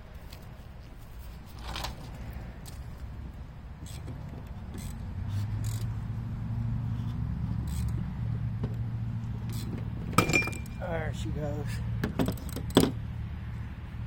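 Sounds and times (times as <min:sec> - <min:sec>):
low motor hum: 0:02.1 - 0:14.0.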